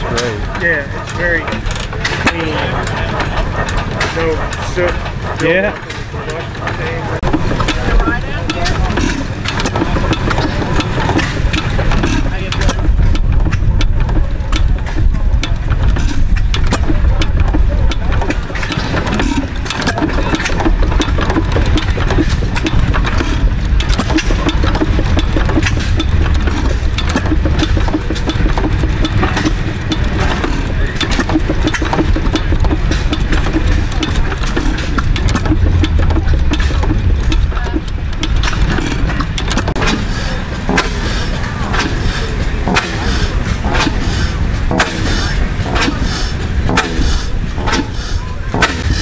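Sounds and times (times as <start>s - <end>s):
stationary engines clattering: 0.0s - 49.0s.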